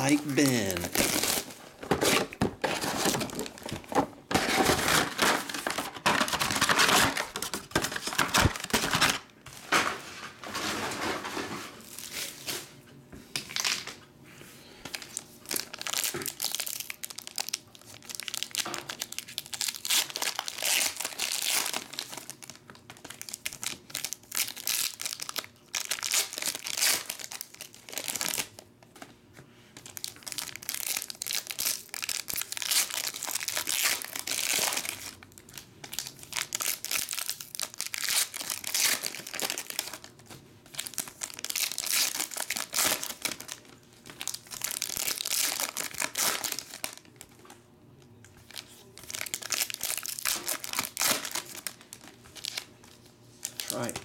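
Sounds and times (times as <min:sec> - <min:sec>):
plastic wrap tearing: 0:00.0 - 0:09.3, 0:14.9 - 0:28.6, 0:29.8 - 0:47.2, 0:48.4 - 0:54.0
foil wrappers crinkling: 0:00.0 - 0:12.6, 0:14.8 - 0:28.7, 0:29.8 - 0:47.5, 0:48.4 - 0:54.0.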